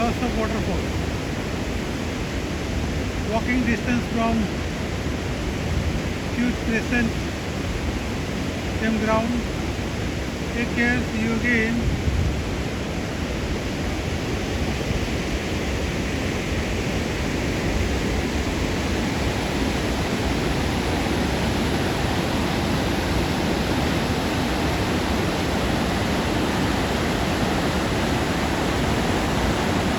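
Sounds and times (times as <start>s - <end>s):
waterfall rushing: 0.0s - 11.8s, 12.4s - 29.9s.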